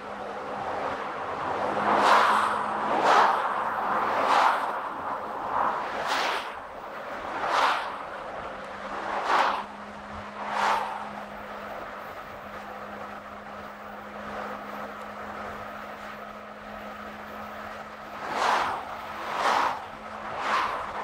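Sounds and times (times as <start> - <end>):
car road noise: 0.0 - 21.0
vehicles whooshing past: 0.0 - 21.0.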